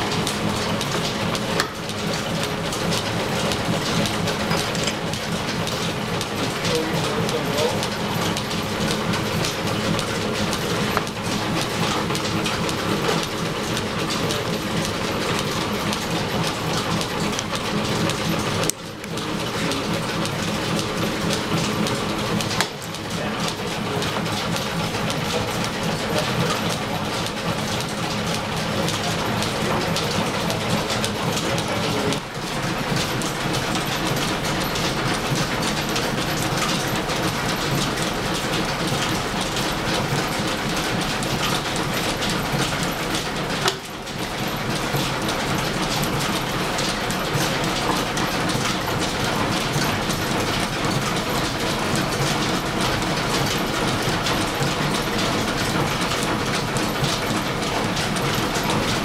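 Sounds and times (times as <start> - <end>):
belt-driven machinery clattering: 0.0 - 59.0.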